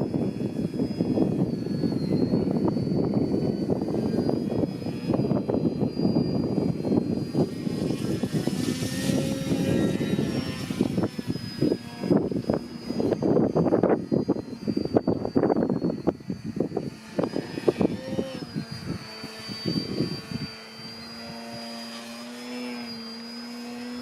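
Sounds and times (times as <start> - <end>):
gusty wind on microphone: 0.0 - 24.0
model plane motor whining: 0.0 - 24.0.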